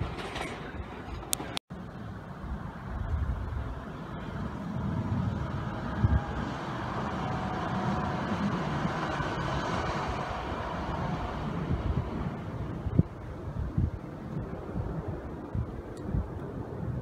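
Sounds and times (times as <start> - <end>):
faint train whine: 0.0 - 14.4
train wheels rumbling on track: 0.0 - 16.5.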